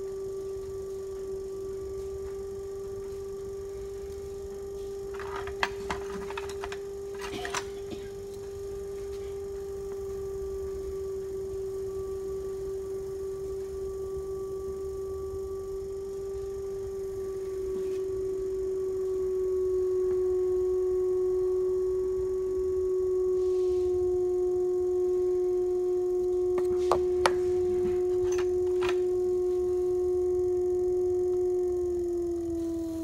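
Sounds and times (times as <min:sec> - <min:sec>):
potter's wheel motor whine: 0:00.0 - 0:33.0.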